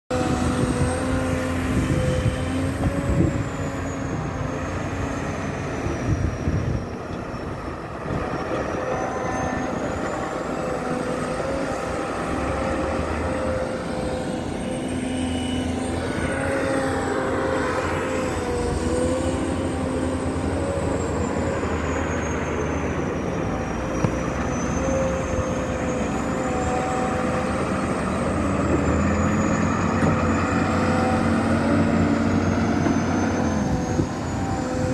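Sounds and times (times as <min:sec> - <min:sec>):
excavator engine running: 0:00.1 - 0:34.9
high whine: 0:00.1 - 0:34.9.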